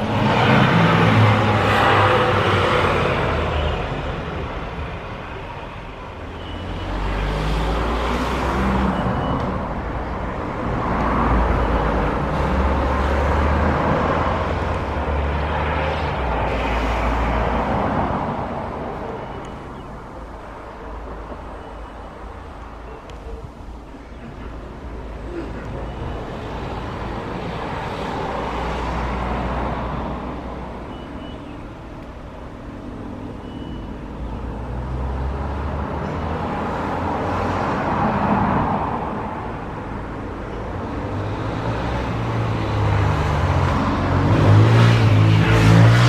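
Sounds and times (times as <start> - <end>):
vehicles passing by: 0.0 - 46.0.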